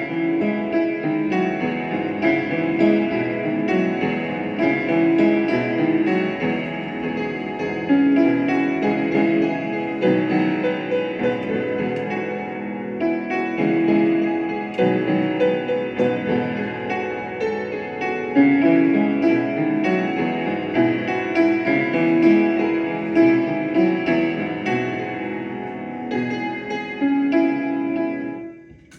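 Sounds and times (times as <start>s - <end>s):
piano melody: 0.0s - 28.9s.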